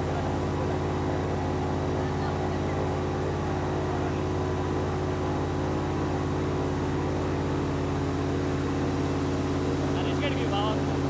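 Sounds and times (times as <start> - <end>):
airboat engine and propeller: 0.0 - 11.0.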